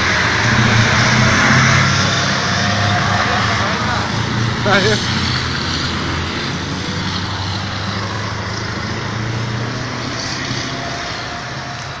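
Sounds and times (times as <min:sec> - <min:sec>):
heavy truck engines droning: 0:00.0 - 0:12.0.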